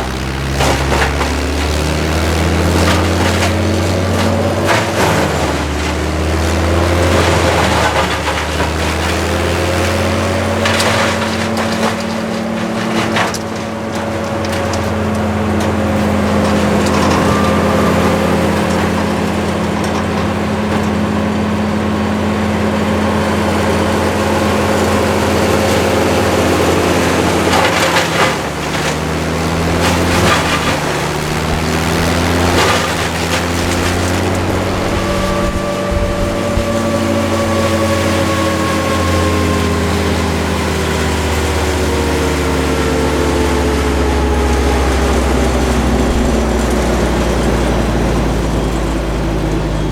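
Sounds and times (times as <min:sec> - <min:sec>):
large engine running: 0:00.0 - 0:49.9
wood cracking and splintering: 0:00.0 - 0:49.9.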